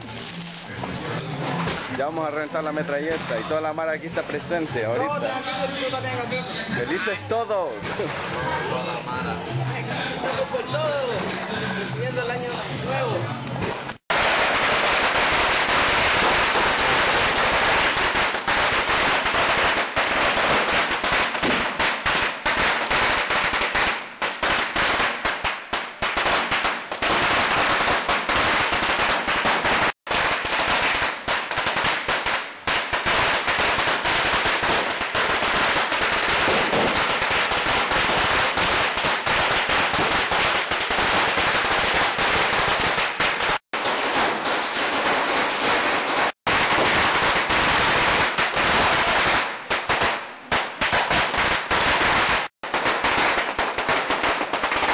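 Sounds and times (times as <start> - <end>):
firecrackers rattling: 0.0 - 6.2, 13.4 - 54.9.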